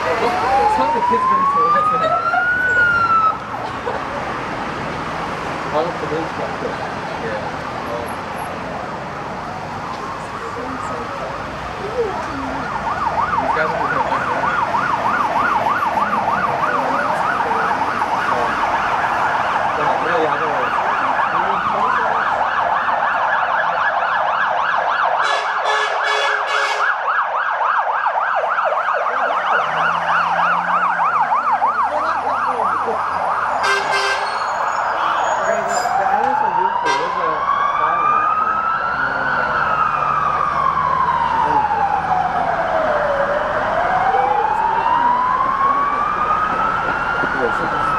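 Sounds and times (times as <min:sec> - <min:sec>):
emergency sirens wailing: 0:00.0 - 0:47.9.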